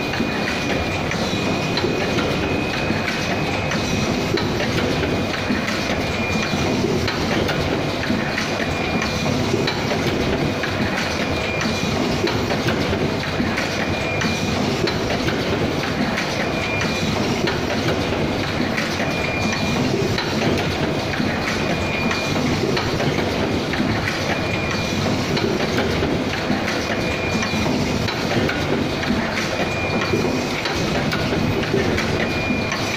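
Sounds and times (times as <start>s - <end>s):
machine mechanical clatter: 0.0s - 32.9s.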